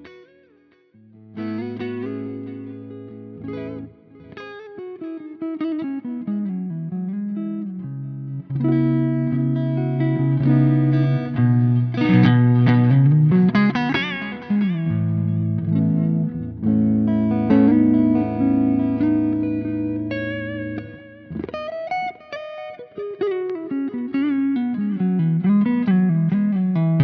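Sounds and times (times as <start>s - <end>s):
electric guitar through tube amp: 0.0s - 27.0s.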